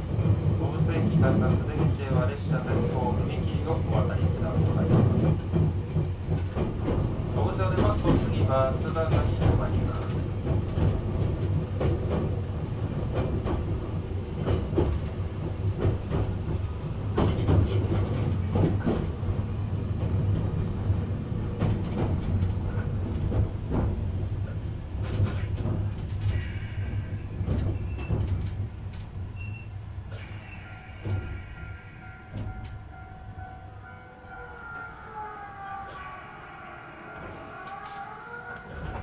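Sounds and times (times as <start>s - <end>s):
train rumble: 0.0s - 39.0s.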